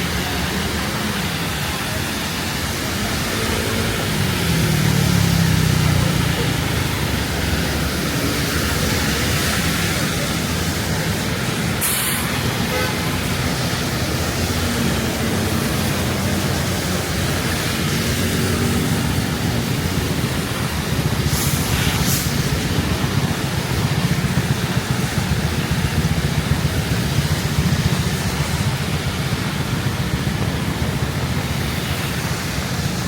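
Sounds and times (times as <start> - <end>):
rain hiss: 0.0 - 33.0
road traffic: 0.0 - 33.0.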